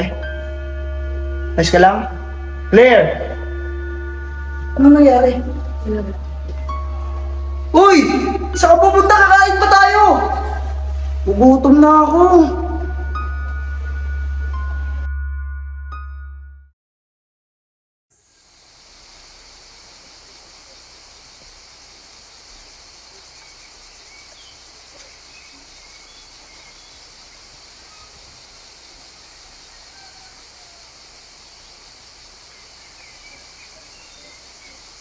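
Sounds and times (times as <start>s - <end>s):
shrill insect chorus: 0.0s - 15.0s, 18.1s - 35.0s.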